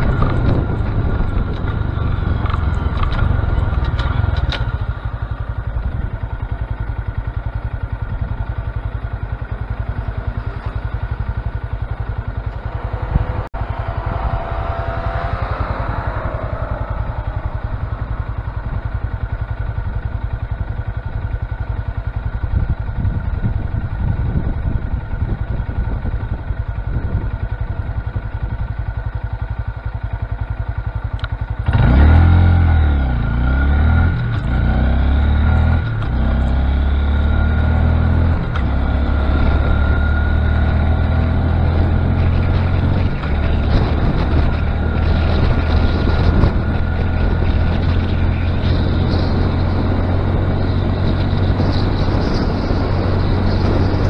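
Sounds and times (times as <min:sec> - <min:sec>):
small motorcycle engine running: 0:00.0 - 0:54.0.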